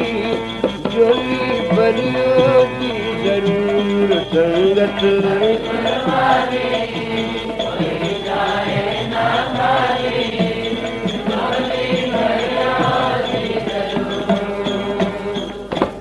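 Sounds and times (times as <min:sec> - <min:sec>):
harmonium playing devotional melody: 0:00.0 - 0:16.0.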